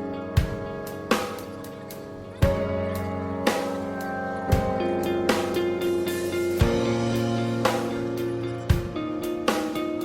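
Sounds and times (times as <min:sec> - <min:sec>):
electric guitar chords: 0:00.0 - 0:10.0
slow drum beat: 0:00.4 - 0:10.0.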